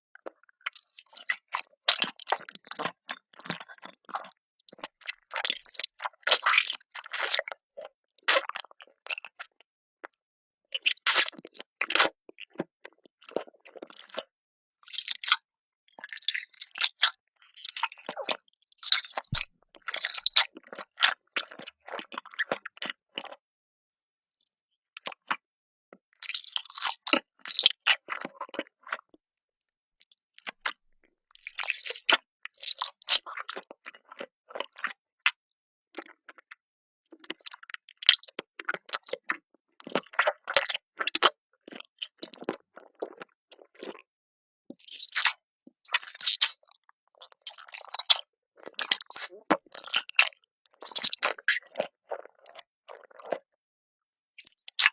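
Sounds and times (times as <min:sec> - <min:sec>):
crunchy food being chewed: 0:00.2 - 0:10.2, 0:10.8 - 0:23.4, 0:26.1 - 0:29.4, 0:30.4 - 0:35.0, 0:37.2 - 0:44.1, 0:44.7 - 0:54.9.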